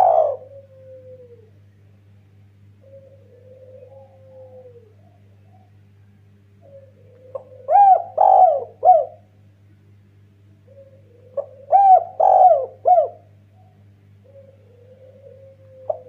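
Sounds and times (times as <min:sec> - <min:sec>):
dove cooing: 0:00.0 - 0:01.8, 0:02.6 - 0:09.3, 0:10.6 - 0:16.0
faint electrical hum: 0:00.0 - 0:16.0.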